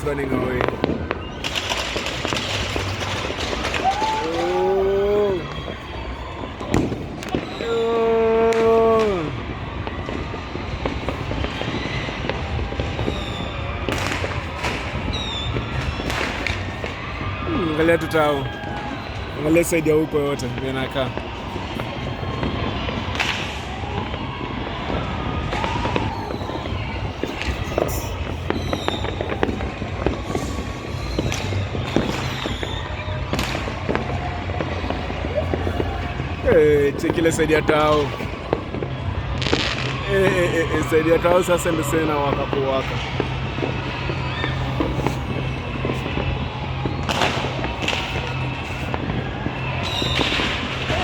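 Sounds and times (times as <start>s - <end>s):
distant fireworks crackling: 0.0s - 51.0s
high firework whistles: 0.0s - 51.0s
loud firework bangs: 0.0s - 51.0s.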